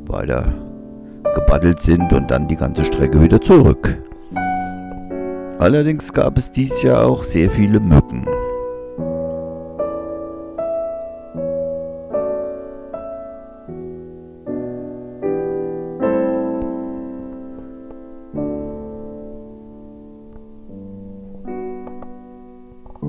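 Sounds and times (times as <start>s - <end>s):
slow gentle piano music: 0.0s - 23.0s.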